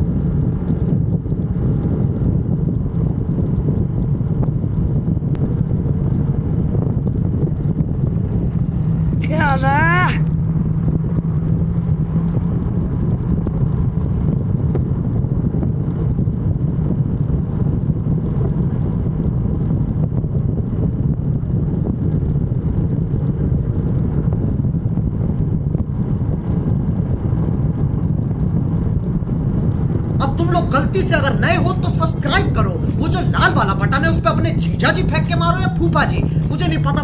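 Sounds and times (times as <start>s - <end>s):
vehicle engine and road drone: 0.0s - 37.0s
wind noise on microphone: 0.0s - 37.0s.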